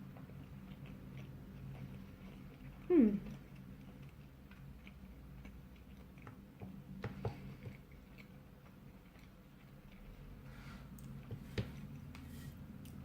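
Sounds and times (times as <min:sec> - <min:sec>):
chewing with mouth clicks: 0:00.0 - 0:12.2.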